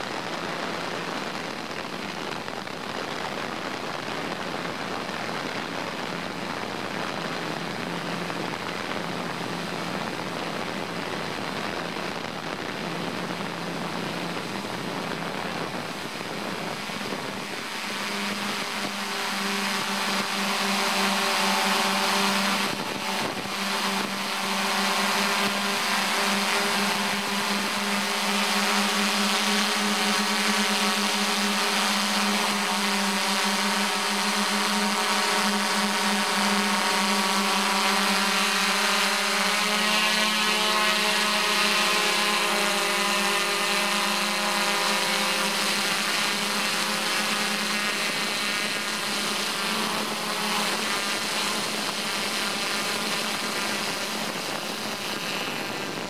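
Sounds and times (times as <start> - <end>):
drone propellers whining: 7.4 - 56.0.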